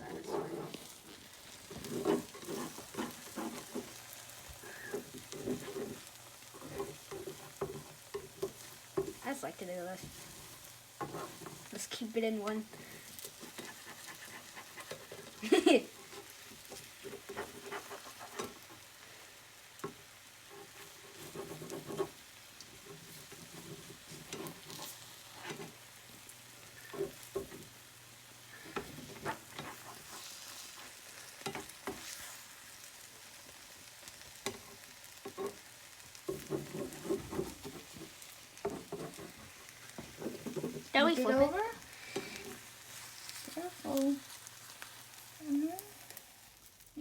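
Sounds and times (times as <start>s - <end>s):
spatula scraping a pan: 0.0s - 46.5s
egg sizzling in a frying pan: 0.0s - 47.0s.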